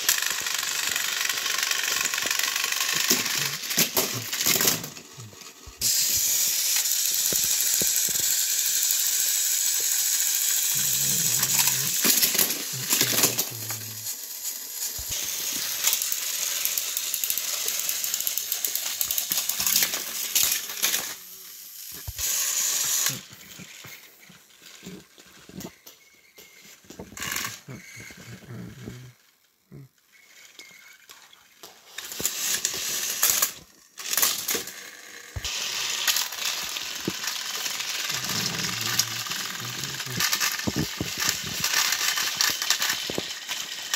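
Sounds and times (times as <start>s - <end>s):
toy trains rattling on plastic track: 0.0s - 43.9s.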